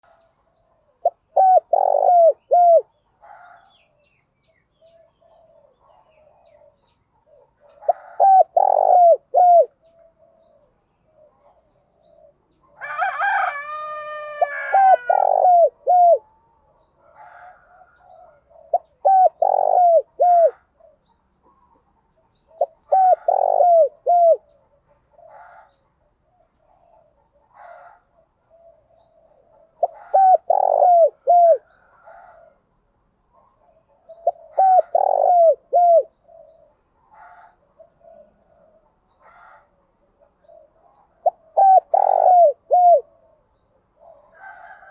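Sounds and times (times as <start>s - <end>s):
doves cooing: 0.8s - 3.9s, 4.8s - 32.7s, 33.3s - 44.9s.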